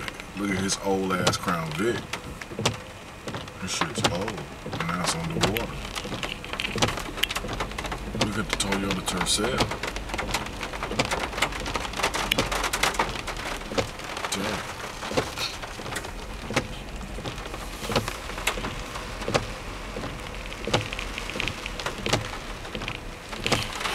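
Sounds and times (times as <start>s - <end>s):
heavy rain pouring: 0.0s - 23.9s
large raindrops tapping close: 0.0s - 23.9s.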